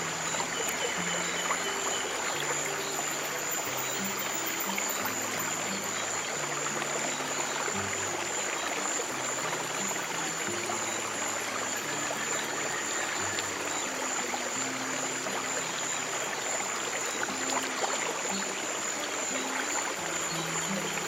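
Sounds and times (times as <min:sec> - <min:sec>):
soft low music notes: 0:00.0 - 0:21.0
stream water rushing and trickling: 0:00.0 - 0:21.0.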